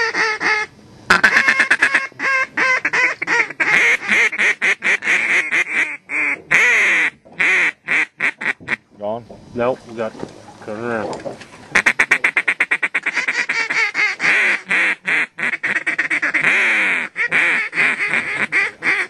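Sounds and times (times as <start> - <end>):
duck call quacks: 0.0 - 8.8, 11.7 - 19.0.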